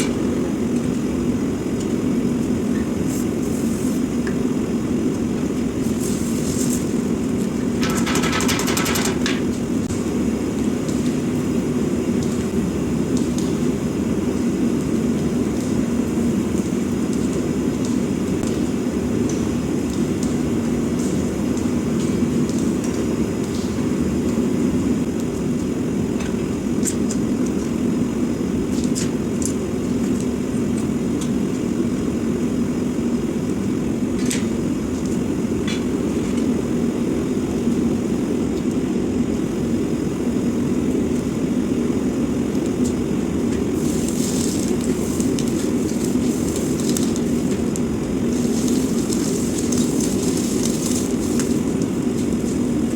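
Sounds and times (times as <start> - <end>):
gas forge burner roar: 0.0 - 52.9.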